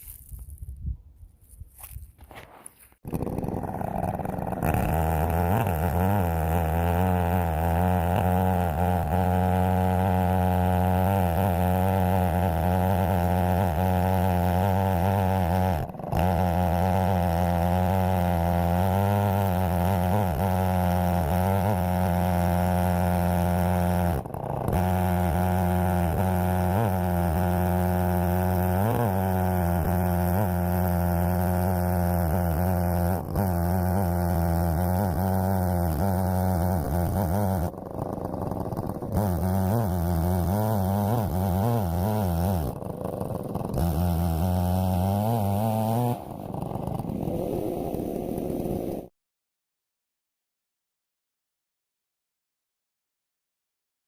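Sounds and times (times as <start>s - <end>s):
chainsaw cutting log: 1.8s - 49.1s.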